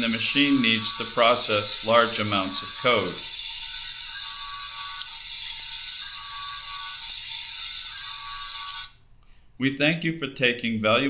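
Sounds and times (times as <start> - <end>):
milling machine high-pitched whine: 0.0 - 9.0.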